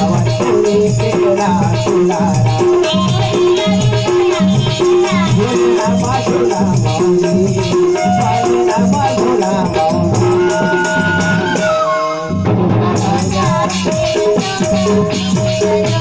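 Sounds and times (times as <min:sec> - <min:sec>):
jingling cymbal percussion: 0:00.0 - 0:11.8, 0:12.8 - 0:16.0
hand drum rhythm: 0:00.0 - 0:16.0
harmonium melody: 0:00.0 - 0:16.0.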